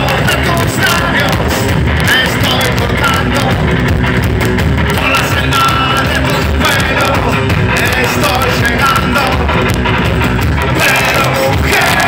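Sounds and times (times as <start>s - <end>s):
person singing lead vocal: 0.0s - 3.7s, 4.9s - 9.8s, 10.6s - 12.0s
live rock band playing: 0.0s - 12.0s.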